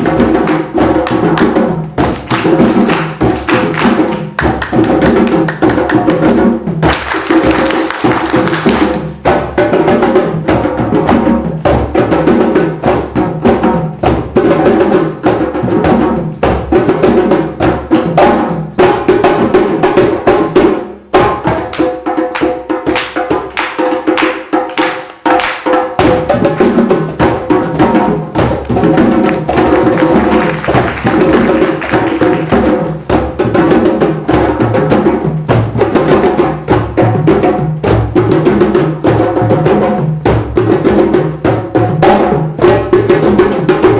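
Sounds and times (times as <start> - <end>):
group of drummers playing: 0.0 - 43.9.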